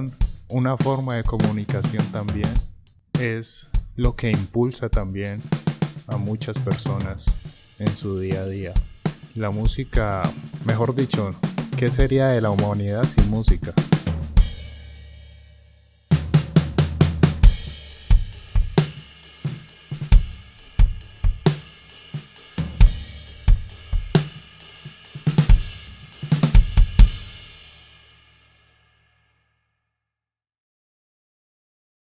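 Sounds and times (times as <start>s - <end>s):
drum kit playing: 0.0s - 28.0s.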